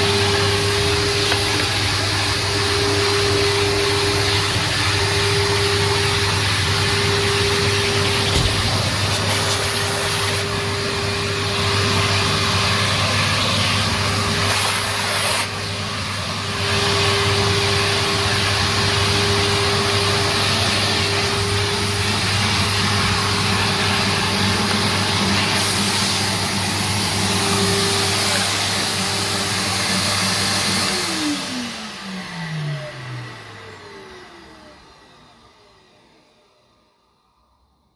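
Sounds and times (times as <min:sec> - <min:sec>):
vacuum motor winding down: 0:00.0 - 0:37.7
vacuum cleaner running: 0:00.0 - 0:37.9.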